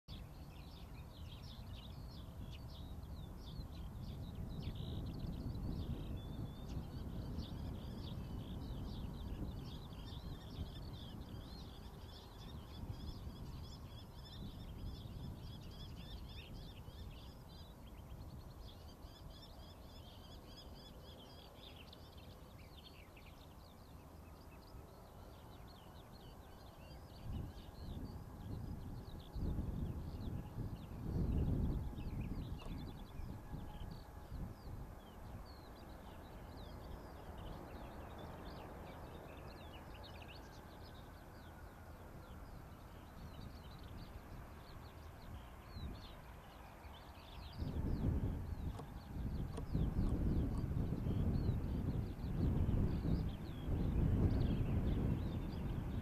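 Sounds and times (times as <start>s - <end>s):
songbirds chirping and singing: 0.1s - 56.0s.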